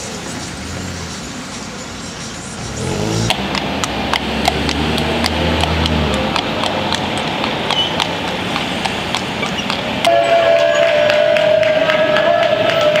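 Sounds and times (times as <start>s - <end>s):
horse hooves clip-clopping on pavement: 0.0s - 13.0s.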